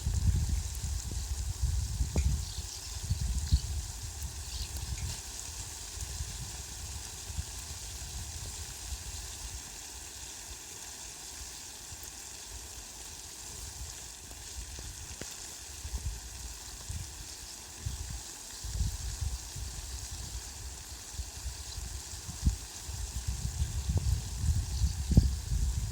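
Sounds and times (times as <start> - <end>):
heavy rain on leafy plants: 0.0 - 25.9.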